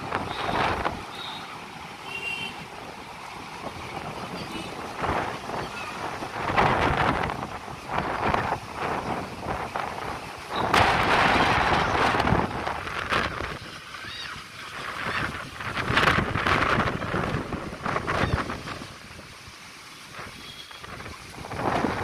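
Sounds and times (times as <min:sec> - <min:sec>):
wind buffeting microphone: 0:02.8 - 0:19.4, 0:20.2 - 0:22.0.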